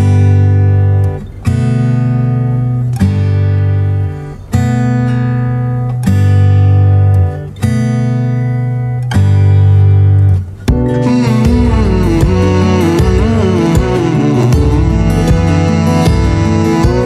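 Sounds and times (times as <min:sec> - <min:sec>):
strummed acoustic guitar chords: 0:00.0 - 0:17.0.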